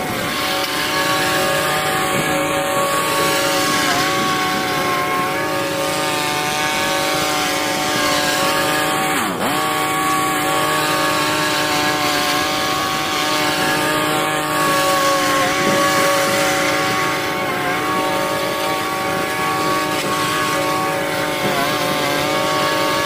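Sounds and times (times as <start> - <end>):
riding mower engine running: 0.0 - 23.0.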